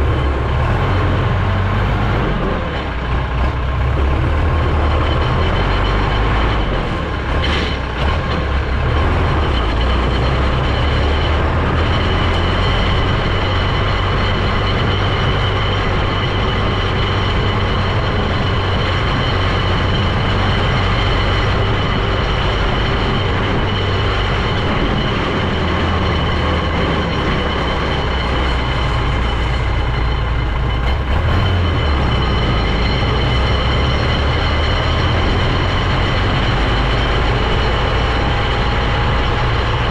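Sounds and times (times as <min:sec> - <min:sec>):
heavy vehicle engine rumble: 0:00.0 - 0:39.9
steady high whine: 0:00.0 - 0:39.9.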